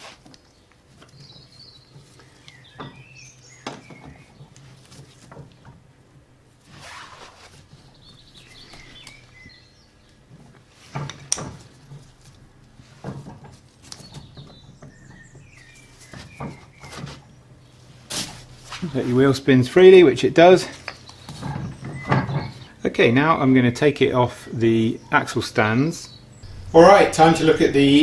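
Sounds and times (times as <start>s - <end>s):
birds chirping: 0.4s - 6.8s, 7.5s - 28.0s.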